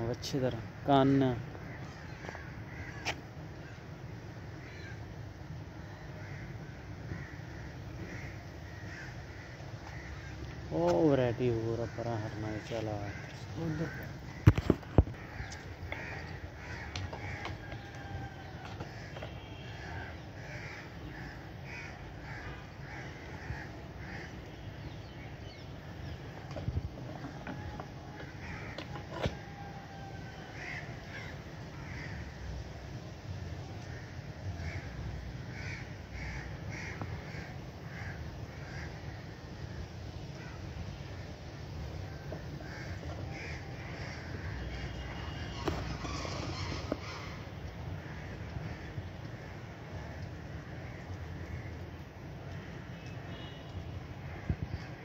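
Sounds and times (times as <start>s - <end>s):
distant bird calls: 0.2s - 33.0s, 33.6s - 55.0s
crow cawing: 1.5s - 3.9s, 4.5s - 5.1s, 5.9s - 11.0s, 11.7s - 26.4s, 27.1s - 32.4s, 33.7s - 41.2s, 42.0s - 51.9s, 54.2s - 55.0s.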